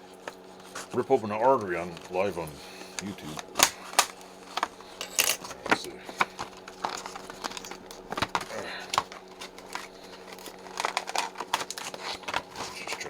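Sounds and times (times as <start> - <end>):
plastic package crackling and snapping: 0.1 - 13.0.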